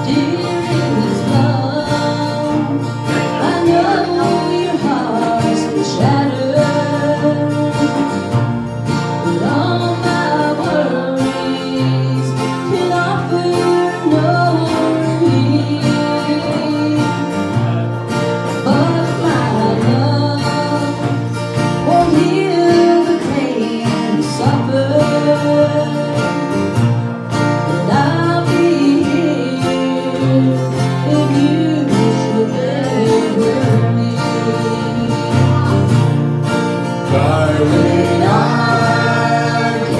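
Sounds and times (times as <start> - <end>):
woman singing into microphone: 0.0 - 17.9, 18.5 - 26.8, 27.5 - 36.2, 37.0 - 39.9
strummed acoustic guitars: 0.0 - 39.9.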